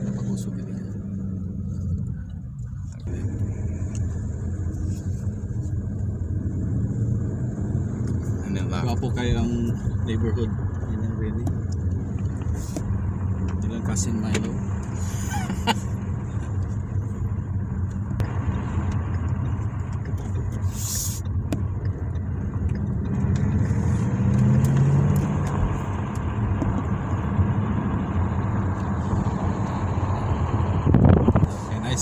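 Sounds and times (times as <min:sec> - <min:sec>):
car engine heard from inside cabin: 0:00.0 - 0:32.0.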